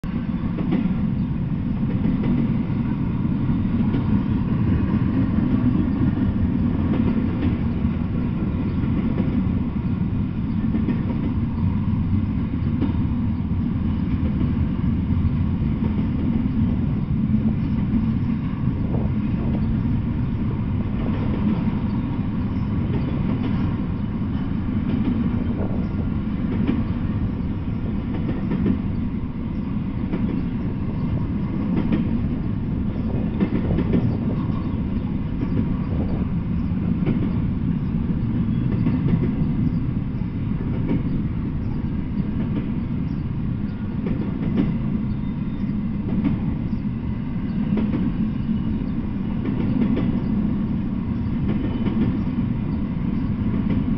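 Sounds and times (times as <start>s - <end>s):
steel wheels rumbling on rails: 0.0s - 53.9s.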